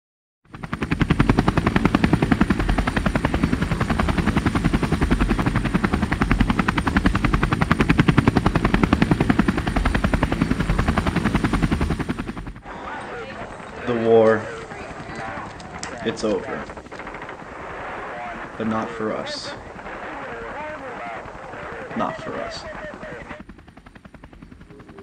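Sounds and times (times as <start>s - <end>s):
helicopter rotor blades beating: 0.5s - 25.0s.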